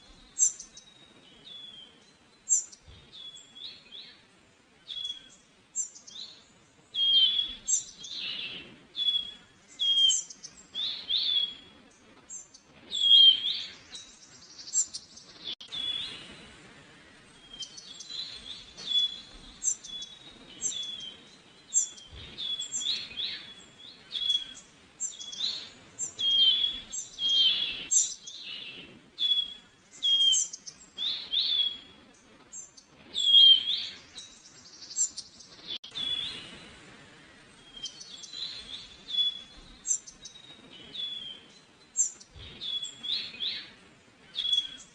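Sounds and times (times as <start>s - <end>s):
faint outdoor background noise: 0.0s - 44.9s
songbirds chirping: 0.0s - 44.9s.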